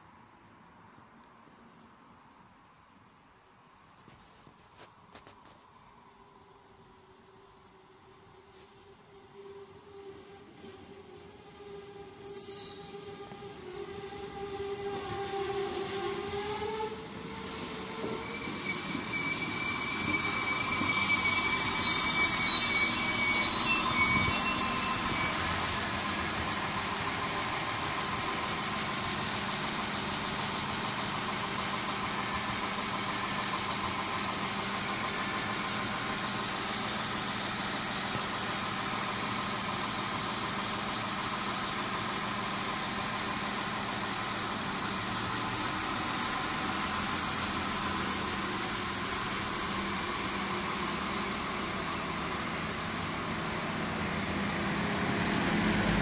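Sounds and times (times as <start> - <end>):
railcar running hum: 0.0 - 56.0
high brake squeal: 8.3 - 56.0.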